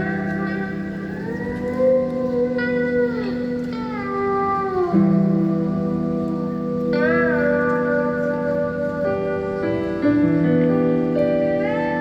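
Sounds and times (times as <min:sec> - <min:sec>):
bending guitar notes: 0:00.0 - 0:12.0.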